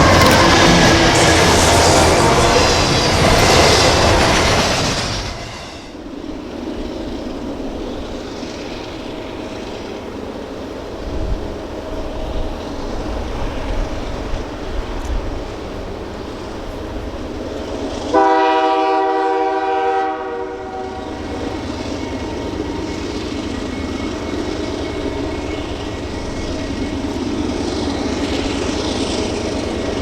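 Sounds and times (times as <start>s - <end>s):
steel train wheels clattering on rail: 0.0s - 30.0s
train rumble: 0.0s - 30.0s.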